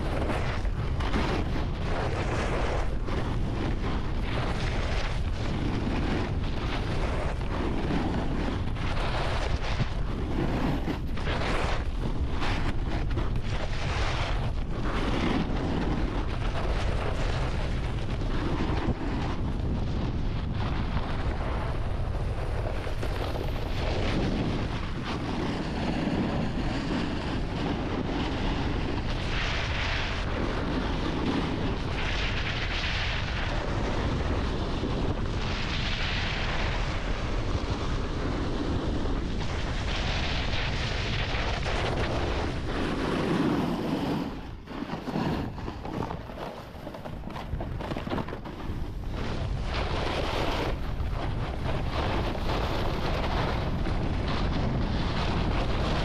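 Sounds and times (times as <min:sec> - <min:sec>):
snowboard edges scraping snow: 0:00.0 - 0:56.0
wind buffeting microphone: 0:00.0 - 0:56.0.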